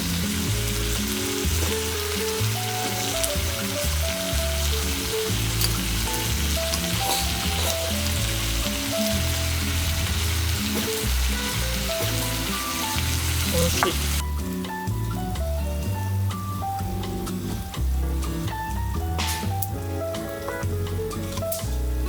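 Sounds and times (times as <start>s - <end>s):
food sizzling in a pan: 0.0s - 20.3s
background music: 0.0s - 22.0s.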